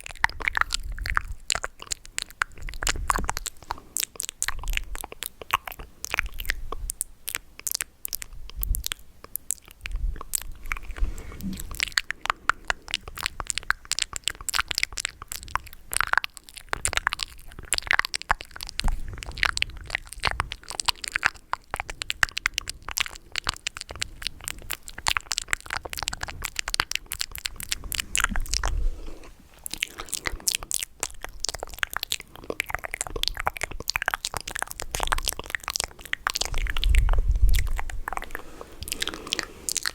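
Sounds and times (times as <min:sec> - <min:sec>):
wet lip and tongue clicks: 0:00.0 - 0:39.9.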